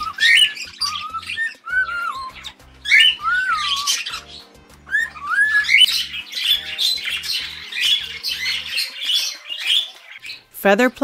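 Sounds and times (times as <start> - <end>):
background music with low pulses: 0.0 - 10.6
birds squawking harshly: 0.0 - 10.6
birds whistling calls: 0.0 - 10.6.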